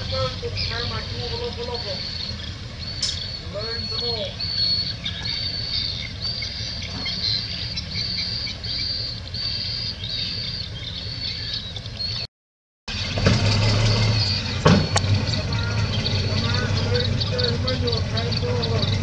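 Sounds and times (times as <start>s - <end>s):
diesel machinery rumbling: 0.0s - 12.3s, 12.9s - 19.0s.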